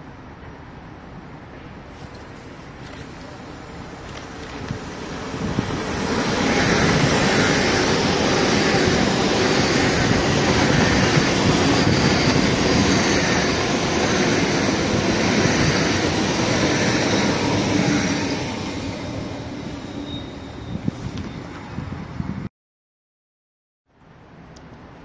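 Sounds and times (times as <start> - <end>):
train wheels rushing on rails: 1.4 - 22.0.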